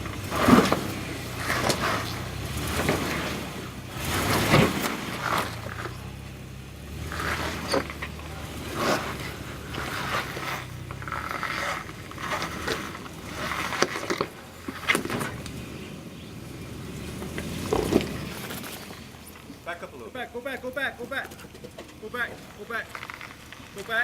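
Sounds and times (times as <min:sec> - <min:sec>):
low engine hum: 0:00.0 - 0:24.0
tyres crunching on stones: 0:00.0 - 0:24.0.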